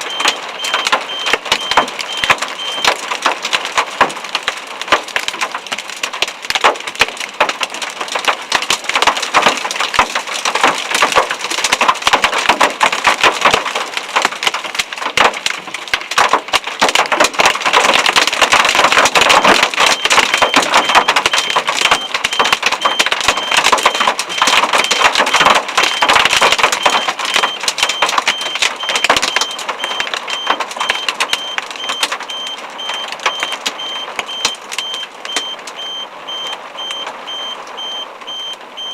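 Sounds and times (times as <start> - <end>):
hail clattering on hard surface: 0.0 - 35.9.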